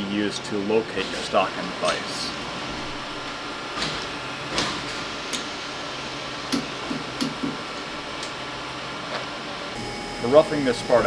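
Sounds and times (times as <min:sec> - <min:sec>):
machine shop hum: 0:00.0 - 0:11.0.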